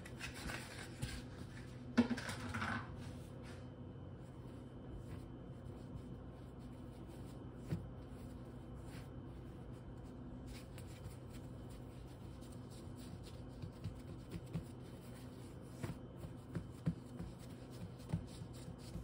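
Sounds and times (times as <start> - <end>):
steady low hum: 0.0 - 19.0
hands rubbing dough: 3.0 - 19.0.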